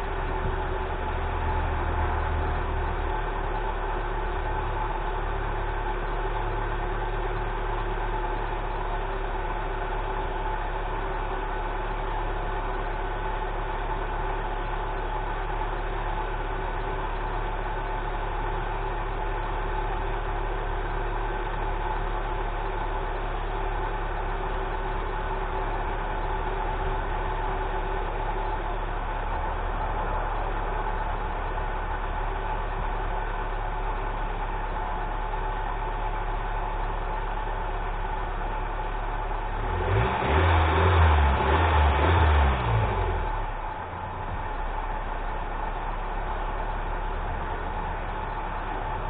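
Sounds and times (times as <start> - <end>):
pickup engine idling: 0.0 - 40.5, 41.3 - 49.0.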